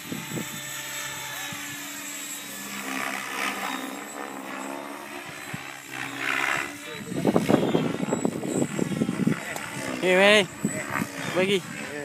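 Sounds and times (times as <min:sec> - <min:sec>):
rc helicopter rotor hum: 0:00.0 - 0:12.0.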